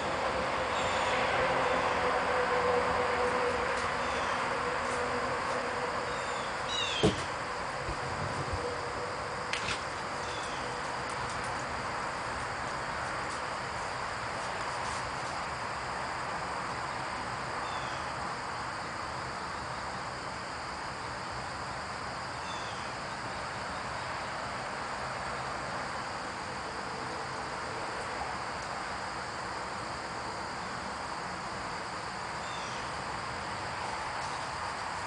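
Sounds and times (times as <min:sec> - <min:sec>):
constant hiss: 0:00.0 - 0:35.0
high insect drone: 0:00.0 - 0:35.0.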